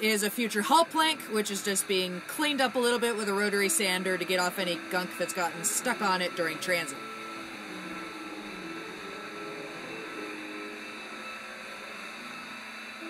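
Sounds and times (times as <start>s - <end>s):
electric sander on wood: 0.0s - 13.0s.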